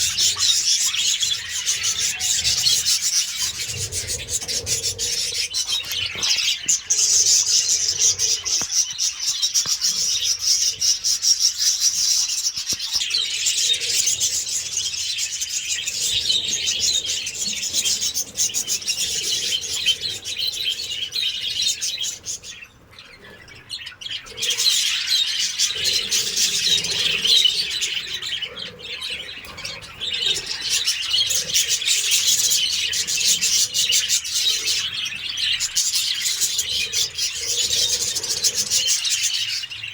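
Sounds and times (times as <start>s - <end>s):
parrots chattering and chirping: 0.0s - 39.9s.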